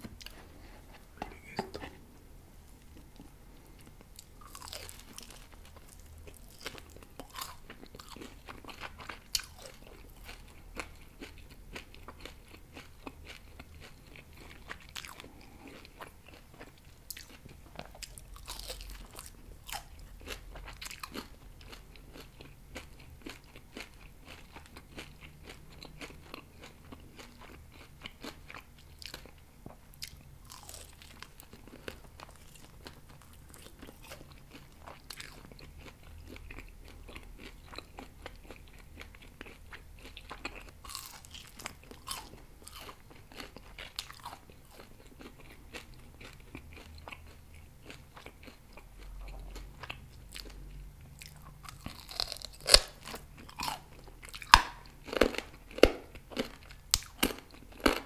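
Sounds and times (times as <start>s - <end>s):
chewing and biting meat: 3.0s - 29.3s, 30.0s - 58.0s.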